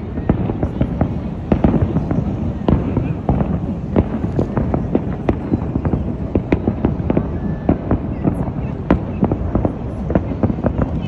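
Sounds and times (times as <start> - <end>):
fireworks booms and cracks: 0.0 - 11.0.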